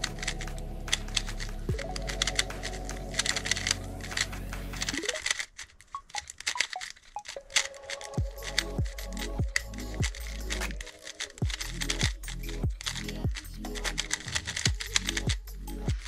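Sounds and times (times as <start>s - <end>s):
puzzle cube clicking: 0.0s - 16.0s.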